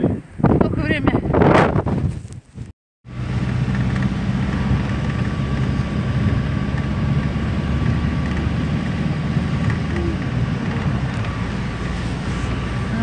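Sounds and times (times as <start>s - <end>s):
vehicle engine and road noise: 1.6s - 13.0s.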